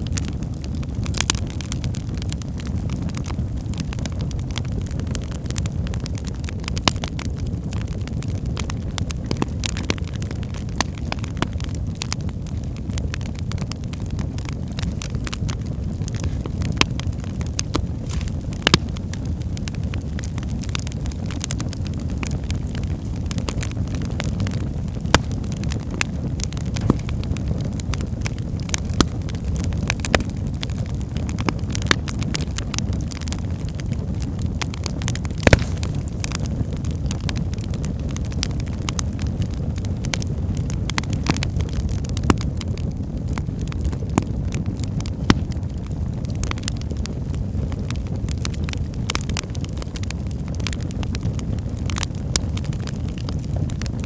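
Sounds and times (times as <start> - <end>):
logs crackling and popping: 0.0 - 54.0
low rumble of flames: 0.0 - 54.0.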